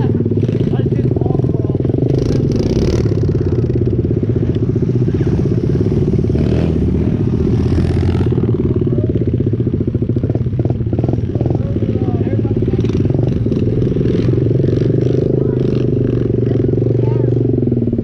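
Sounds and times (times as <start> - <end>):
pit bike engine running: 0.0 - 18.0.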